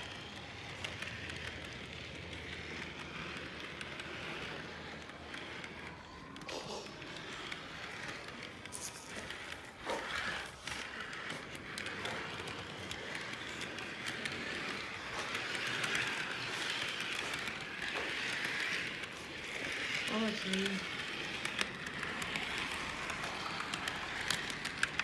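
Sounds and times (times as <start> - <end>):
model train rattling rumble: 0.0 - 25.0
small track clicks: 0.0 - 25.0.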